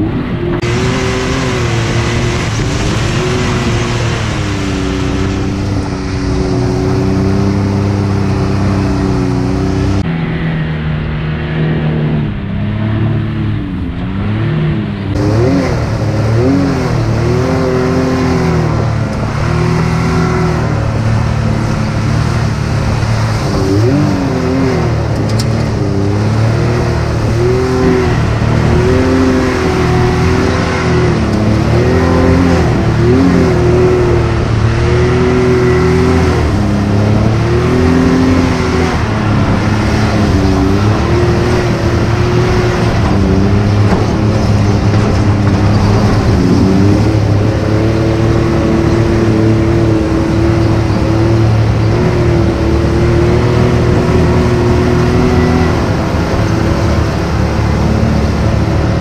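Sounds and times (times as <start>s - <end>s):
engine revving under load: 0.0s - 59.0s.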